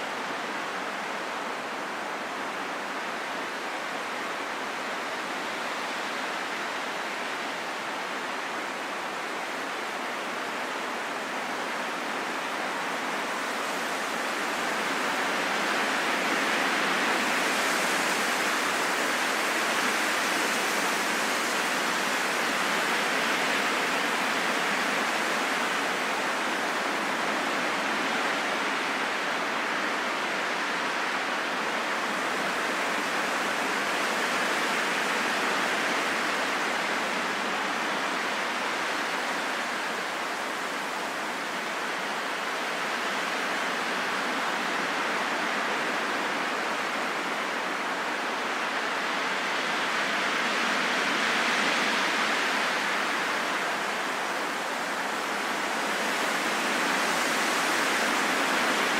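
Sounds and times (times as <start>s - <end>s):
steady wind blowing: 0.0s - 58.9s.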